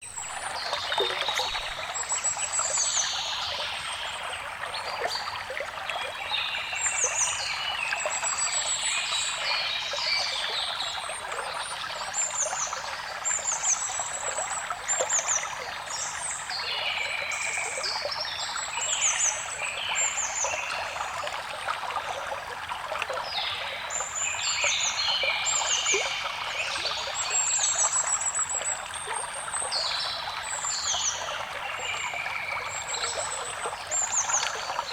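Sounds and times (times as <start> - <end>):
stream trickling: 0.0 - 34.9.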